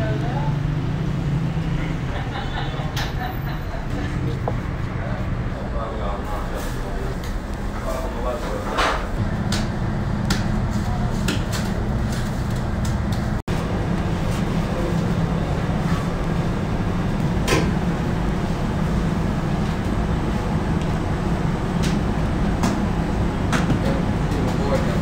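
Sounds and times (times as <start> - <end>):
bakery machinery rumbling: 0.0 - 25.0.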